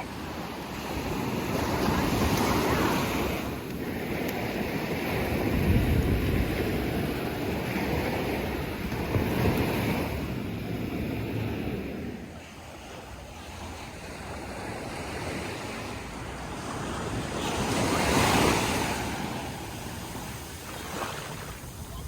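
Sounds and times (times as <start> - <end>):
wind on microphone: 0.0 - 13.0, 13.6 - 22.0
sea waves breaking on beach: 0.0 - 22.0.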